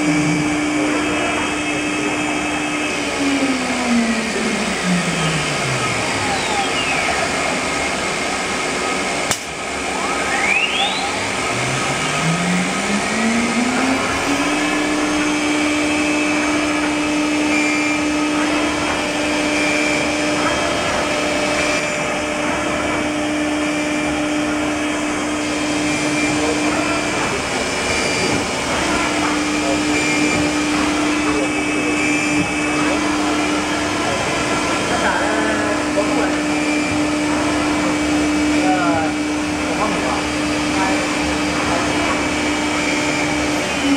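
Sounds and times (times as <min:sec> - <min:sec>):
router spindle whine: 0:00.0 - 0:43.9
rushing machine noise: 0:00.0 - 0:43.9.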